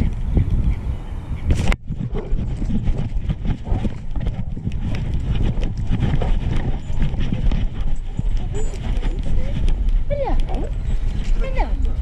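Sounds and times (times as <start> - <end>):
camera bouncing rumble: 0.0 - 0.8, 1.4 - 12.0
rhythmic thumping of running dog: 1.7 - 12.0.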